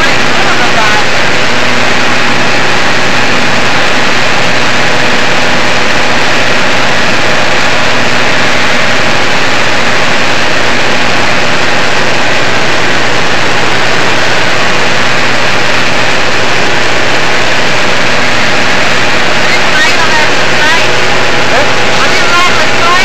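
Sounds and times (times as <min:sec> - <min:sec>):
propeller aircraft engine in cabin: 0:00.0 - 0:23.0.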